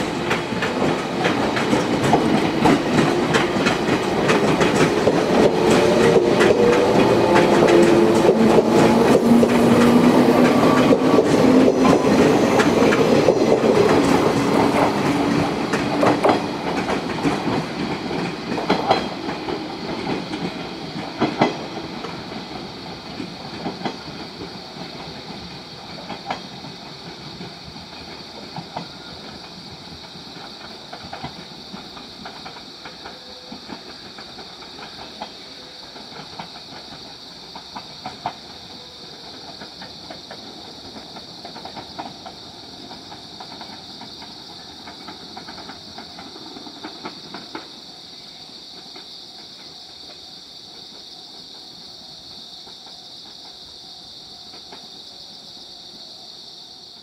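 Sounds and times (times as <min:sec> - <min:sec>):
train wheels clicking over rail joints: 0:00.0 - 0:51.8
insects chirring: 0:00.0 - 0:57.0.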